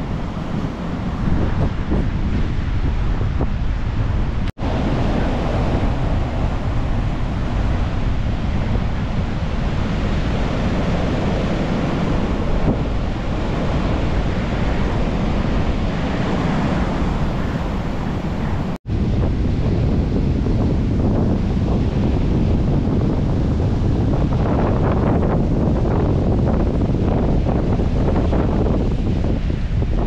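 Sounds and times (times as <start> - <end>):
sea waves breaking: 0.0 - 30.0
wind buffeting microphone: 0.0 - 30.0.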